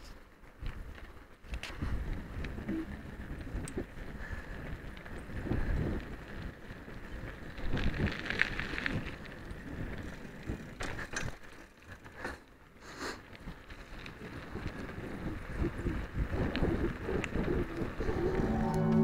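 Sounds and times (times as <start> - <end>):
rumbling and rattling on road: 0.0 - 19.0.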